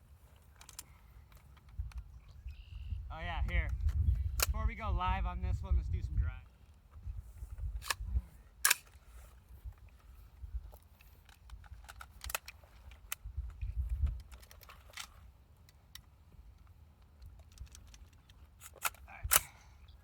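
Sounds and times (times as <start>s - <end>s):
metallic clicks of rifles handled: 0.0s - 2.7s, 3.4s - 4.7s, 6.5s - 20.0s.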